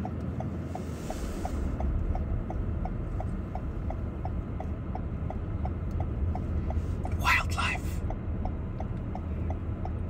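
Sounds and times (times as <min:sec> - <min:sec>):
low rumble inside car: 0:00.0 - 0:10.0
turn signal ticking: 0:00.0 - 0:10.0.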